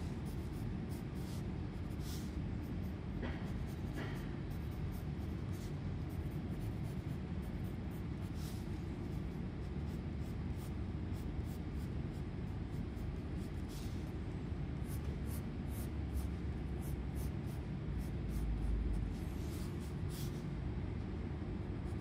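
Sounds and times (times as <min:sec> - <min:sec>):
pencil scratching on paper: 0:00.0 - 0:14.2, 0:14.8 - 0:20.4
low background rumble: 0:00.0 - 0:22.0.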